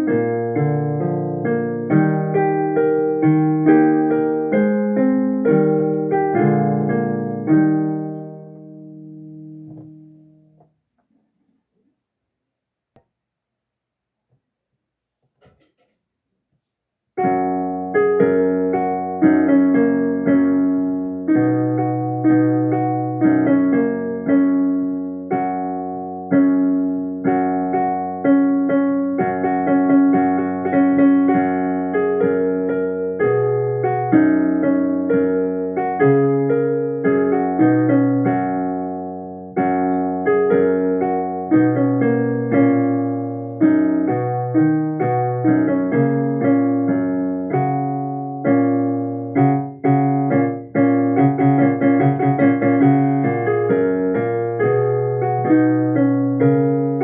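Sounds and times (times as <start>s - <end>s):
piano piece: 0.0s - 11.1s, 17.2s - 57.0s.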